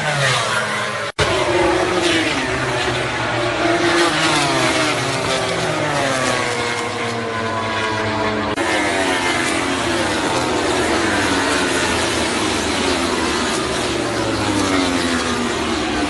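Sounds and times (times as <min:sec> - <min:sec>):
racing motorcycles passing by: 0:00.0 - 0:16.0.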